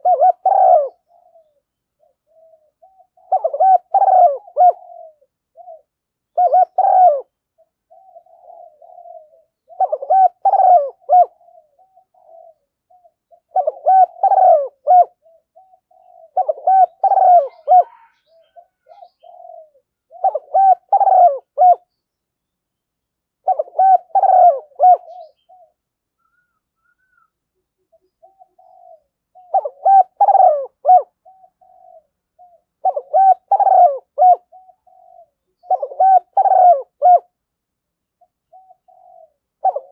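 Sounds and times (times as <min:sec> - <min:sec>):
dove cooing: 0:00.0 - 0:22.0, 0:23.4 - 0:37.4, 0:38.2 - 0:39.9.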